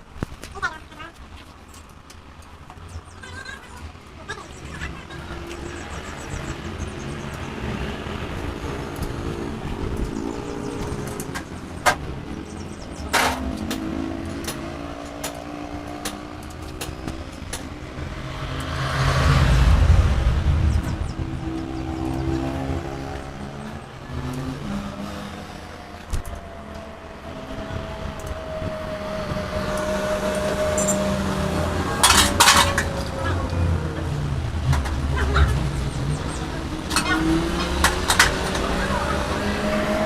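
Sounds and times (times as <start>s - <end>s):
vehicle engines running: 0.0s - 40.0s.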